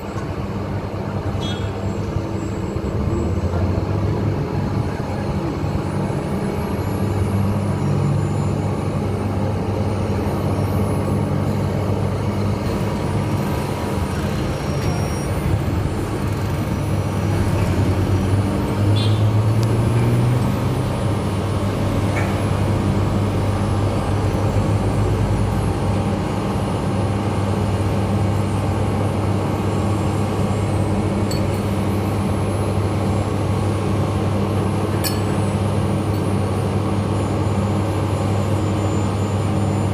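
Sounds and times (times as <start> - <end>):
large engine running: 0.0 - 39.9.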